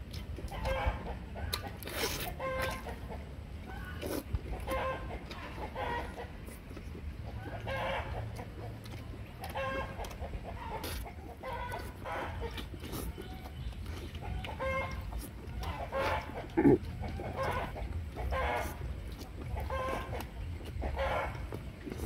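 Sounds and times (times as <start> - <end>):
chewing and mouth noises: 0.0 - 22.0
chickens clucking: 0.3 - 22.0.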